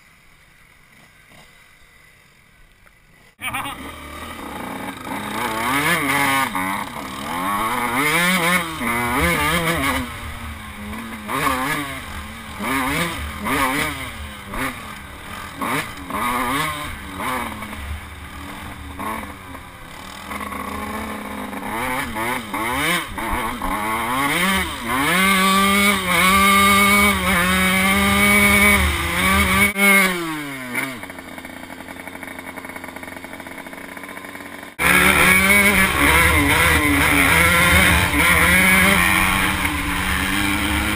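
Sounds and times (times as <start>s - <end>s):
dirt bike engine revving: 3.4s - 40.9s.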